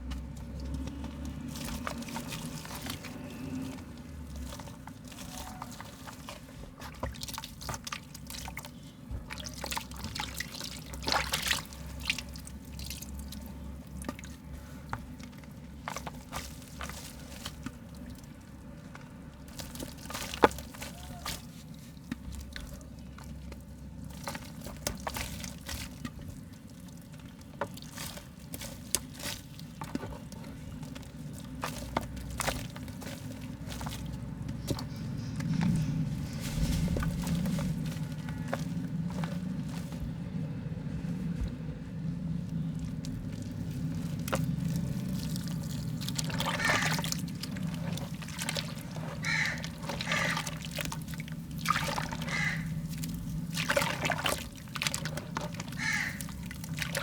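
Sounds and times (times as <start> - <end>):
mud crumbling wet crackles: 0.0 - 57.0.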